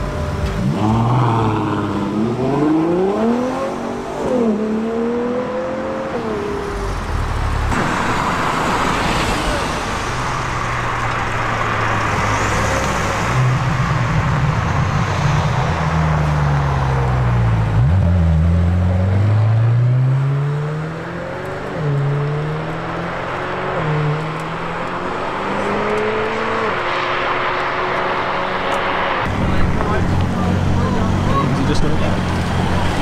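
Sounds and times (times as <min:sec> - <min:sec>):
car engine accelerating with upshifts: 0:00.0 - 0:08.3, 0:10.7 - 0:33.0.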